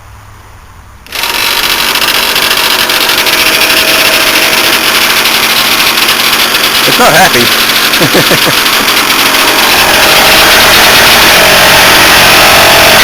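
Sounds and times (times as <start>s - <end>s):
air conditioner running harsh: 0.0s - 13.0s.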